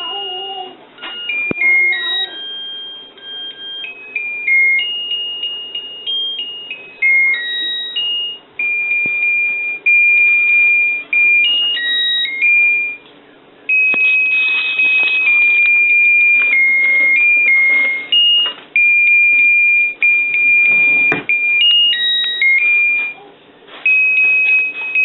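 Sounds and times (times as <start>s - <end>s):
electronic beeping melody: 1.0s - 13.0s, 13.6s - 23.2s, 23.9s - 25.0s.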